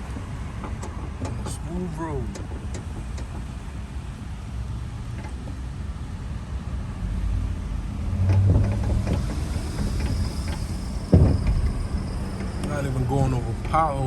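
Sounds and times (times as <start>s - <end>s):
suspension clunking and knocking: 0.0s - 6.4s, 7.5s - 14.0s
low road rumble: 0.0s - 14.0s.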